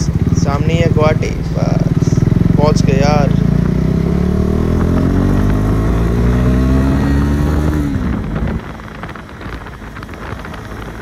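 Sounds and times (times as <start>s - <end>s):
motorcycle engine revving: 0.0s - 11.0s
wind and road noise: 0.0s - 11.0s.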